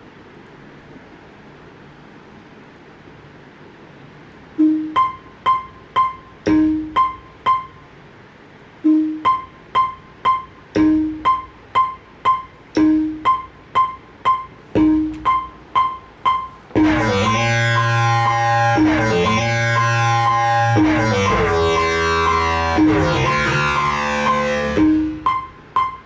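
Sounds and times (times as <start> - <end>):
piano-like keyboard notes: 4.6 - 26.0.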